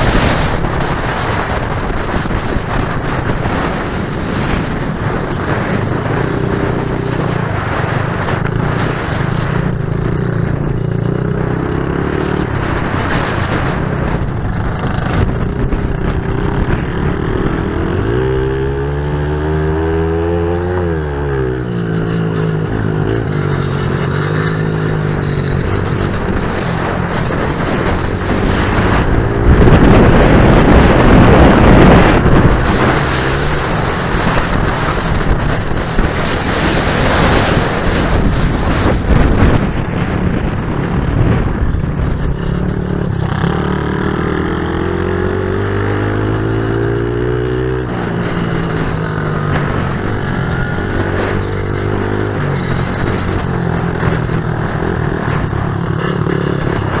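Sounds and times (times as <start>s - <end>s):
motorbike engines revving: 0.0s - 57.0s.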